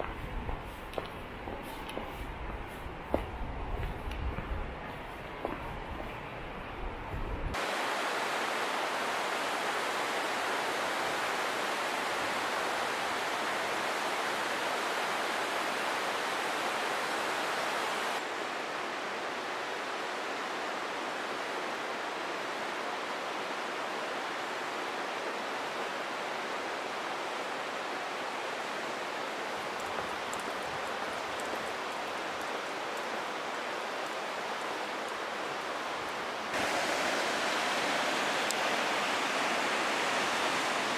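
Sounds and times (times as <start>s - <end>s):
river rapids rushing: 7.6s - 40.9s.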